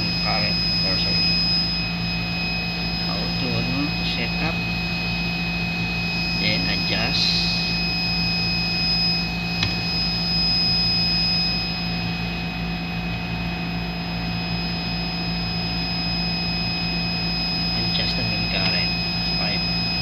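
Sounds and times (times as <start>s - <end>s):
high-pitched whining tones: 0.0s - 20.0s
laboratory equipment humming: 0.0s - 20.0s.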